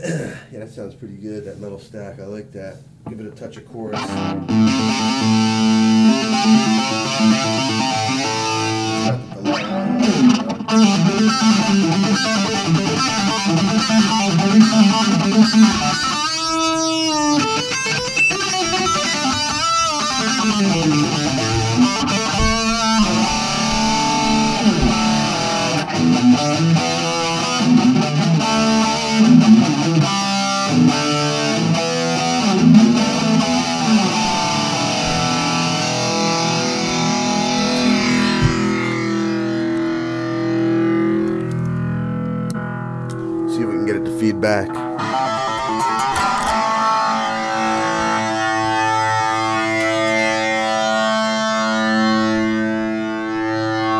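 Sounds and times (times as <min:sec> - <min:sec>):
distorted electric guitar: 0:03.9 - 0:53.9.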